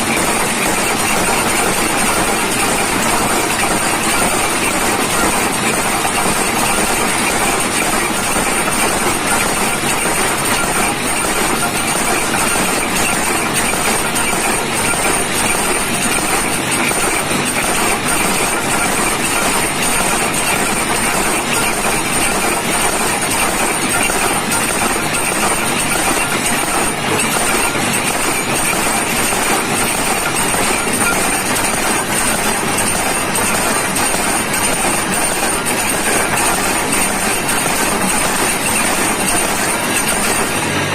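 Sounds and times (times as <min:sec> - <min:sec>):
workshop machinery running: 0:00.0 - 0:40.9.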